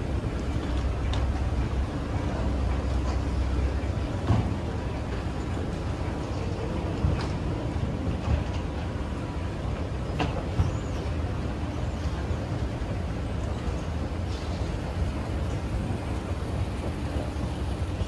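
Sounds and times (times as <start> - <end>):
escalator rumbling: 0.0 - 18.0.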